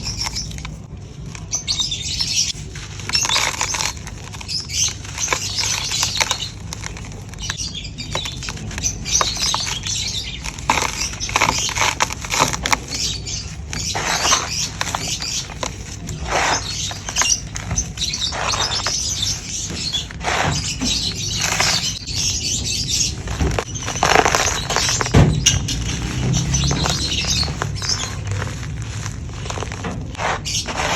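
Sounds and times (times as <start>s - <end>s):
charcoal crumbling: 0.0s - 30.9s.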